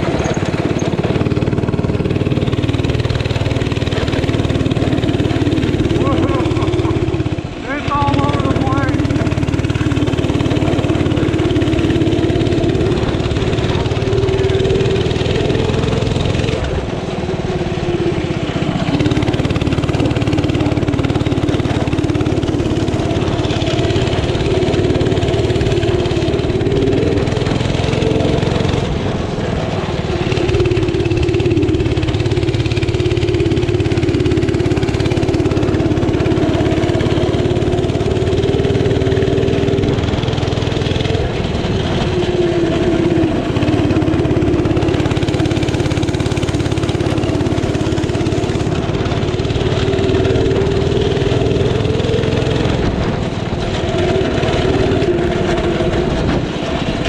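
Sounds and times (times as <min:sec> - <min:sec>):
lawn mower engine running hard: 0:00.0 - 0:57.0.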